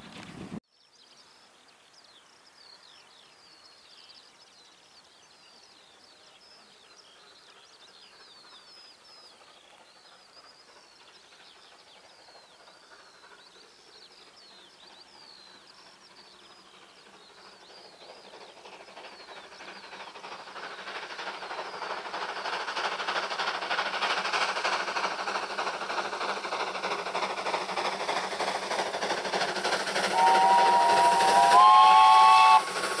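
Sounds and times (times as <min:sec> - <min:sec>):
songbirds chirping and whistling: 0:00.8 - 0:33.0.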